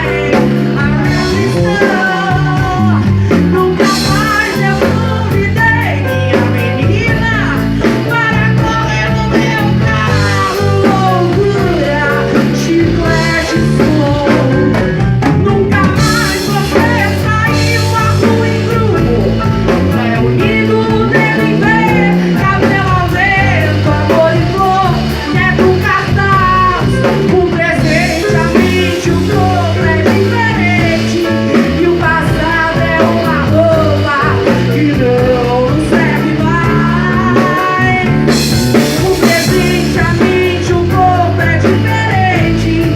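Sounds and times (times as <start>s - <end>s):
band playing bass and drums: 0.0s - 42.9s
woman singing: 0.0s - 42.9s.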